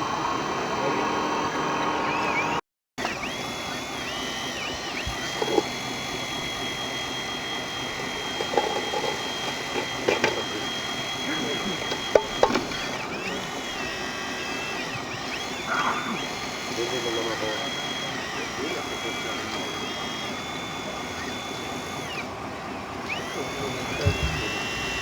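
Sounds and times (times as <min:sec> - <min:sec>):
small electric motor whine: 0:00.0 - 0:25.0.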